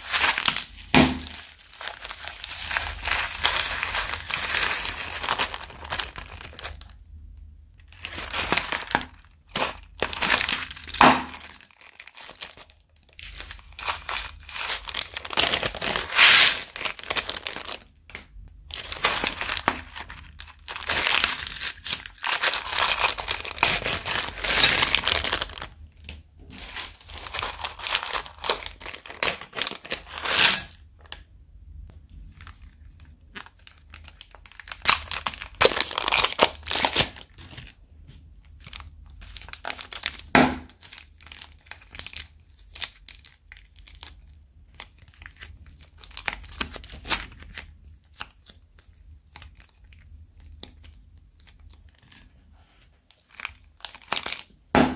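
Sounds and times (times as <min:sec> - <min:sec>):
plastic bags crinkling: 0:00.0 - 0:07.0, 0:07.8 - 0:31.2, 0:32.2 - 0:37.8, 0:38.4 - 0:52.3, 0:53.1 - 0:54.8.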